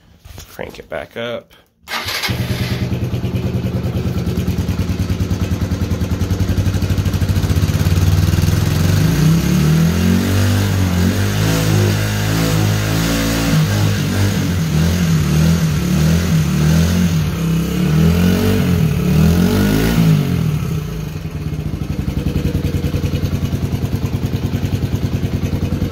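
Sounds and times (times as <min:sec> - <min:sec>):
motorcycle engine revving and idling: 0:01.9 - 0:25.9.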